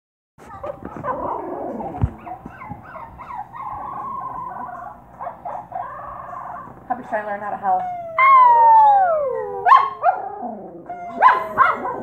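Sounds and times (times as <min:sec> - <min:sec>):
howling and whining cries: 0:00.5 - 0:12.0.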